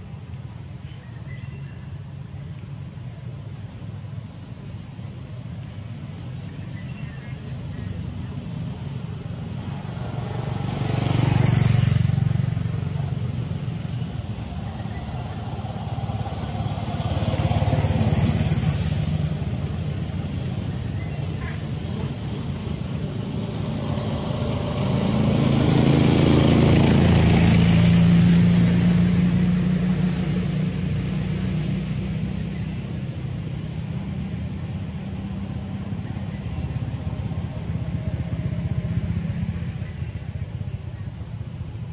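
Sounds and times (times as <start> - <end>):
background engine hum: 0.0 - 41.9
vehicles passing by: 0.0 - 41.9.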